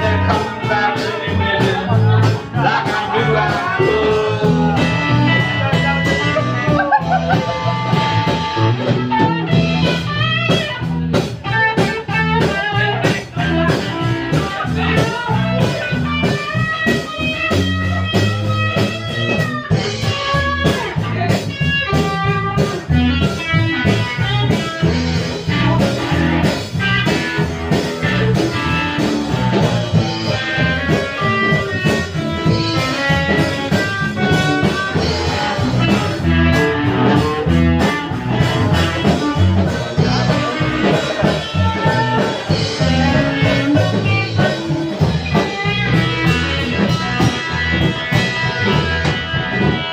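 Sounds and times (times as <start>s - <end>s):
blues band playing: 0.0s - 49.9s
electric guitar lines: 0.0s - 49.9s.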